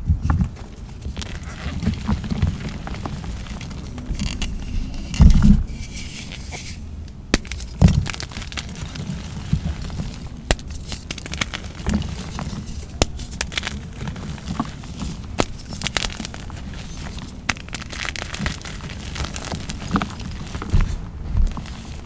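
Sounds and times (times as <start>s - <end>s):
chalk blocks cracking and crumbling: 0.2s - 22.0s.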